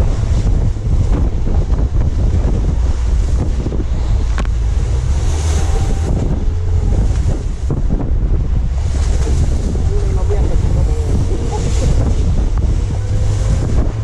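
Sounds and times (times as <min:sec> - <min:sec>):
waves and spray rushing: 0:00.0 - 0:14.0
wind buffeting microphone: 0:00.0 - 0:14.0.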